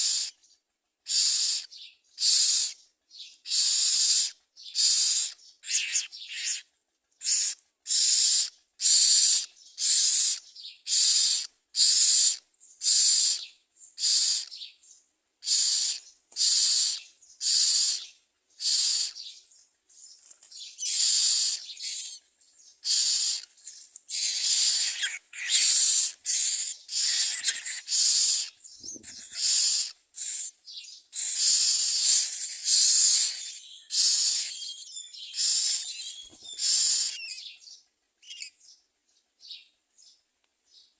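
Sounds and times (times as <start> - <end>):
nestlings begging with harsh rasps: 0.0 - 0.4, 1.0 - 14.7, 15.4 - 38.7.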